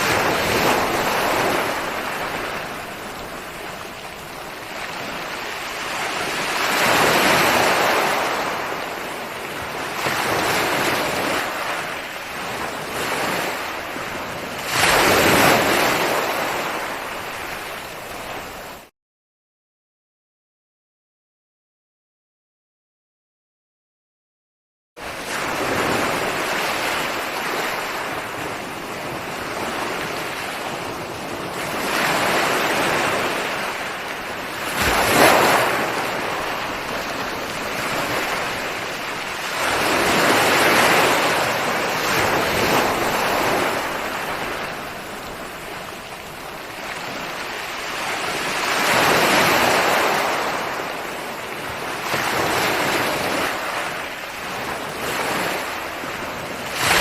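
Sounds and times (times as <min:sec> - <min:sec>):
ocean waves breaking on shore: 0:00.0 - 0:18.9, 0:25.0 - 0:57.0.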